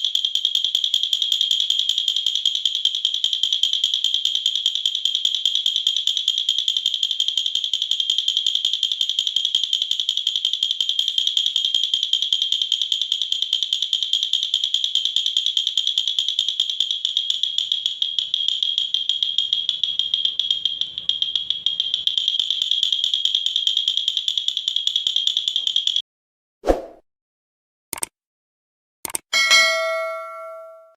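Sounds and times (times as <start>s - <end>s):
wooden baby rattle shaken: 0.0s - 26.0s.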